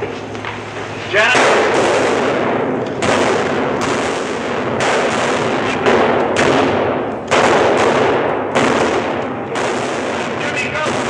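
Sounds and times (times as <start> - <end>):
steady rush of noise: 0.0 - 11.0
blank gunfire bangs: 1.2 - 11.0.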